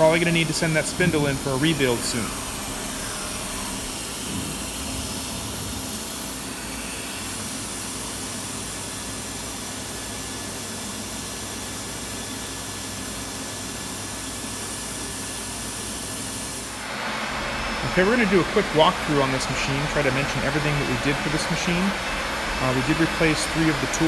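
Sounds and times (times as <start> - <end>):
router spindle whirring with hiss: 0.0 - 10.3, 13.9 - 24.0.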